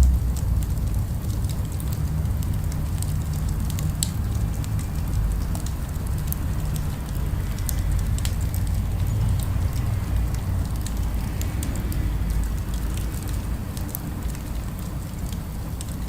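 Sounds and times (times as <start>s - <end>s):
distant city rumble: 0.0s - 16.0s
fireplace crackling and popping: 0.0s - 16.0s.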